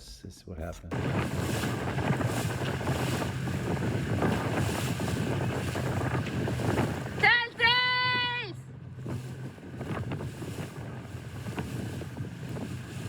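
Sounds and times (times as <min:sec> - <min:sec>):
water rushing past boat: 0:00.9 - 0:13.0
wind buffeting microphone: 0:00.9 - 0:13.0.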